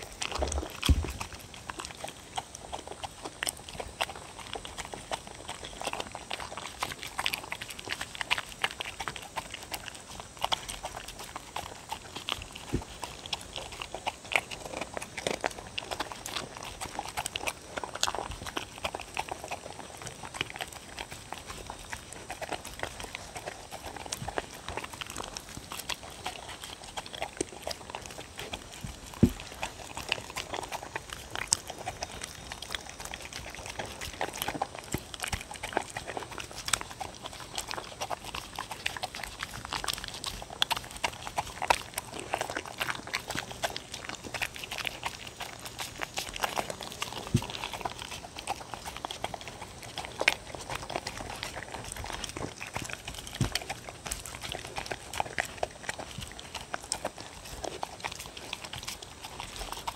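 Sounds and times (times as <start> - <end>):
dogs chewing and licking: 0.0 - 59.9.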